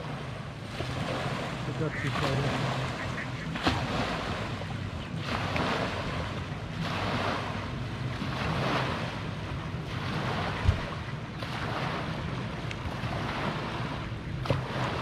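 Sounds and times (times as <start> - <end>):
lake waves lapping on sand: 0.0 - 15.0
wind rumbling on microphone: 0.0 - 15.0.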